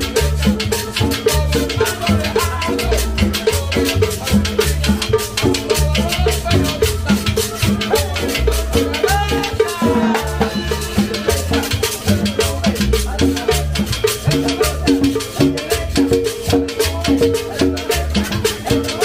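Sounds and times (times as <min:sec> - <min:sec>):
bass line: 0:00.0 - 0:19.0
percussion fast beat: 0:00.0 - 0:19.0
salsa dance music: 0:00.0 - 0:19.0.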